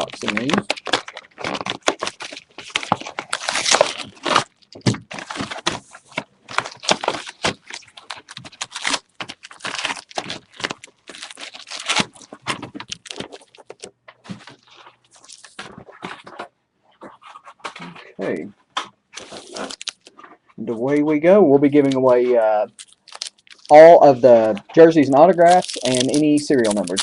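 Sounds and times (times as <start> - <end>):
plastic wrapping crinkling and tearing: 0.0 - 20.4, 21.7 - 27.0.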